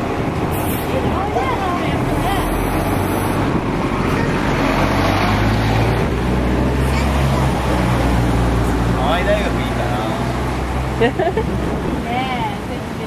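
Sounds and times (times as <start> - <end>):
street traffic: 0.0 - 13.0
vehicle engine humming: 0.0 - 13.0.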